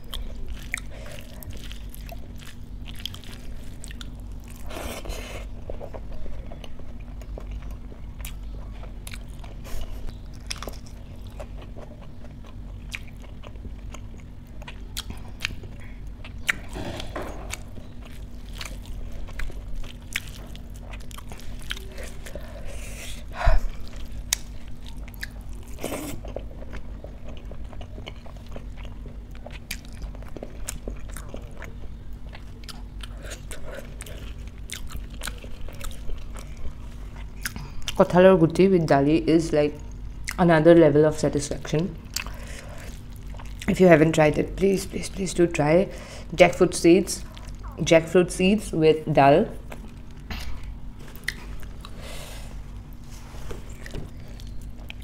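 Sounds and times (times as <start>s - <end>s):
chewing and crunching food: 0.0s - 40.7s, 41.3s - 48.2s, 49.5s - 55.0s
low hum: 0.0s - 55.0s.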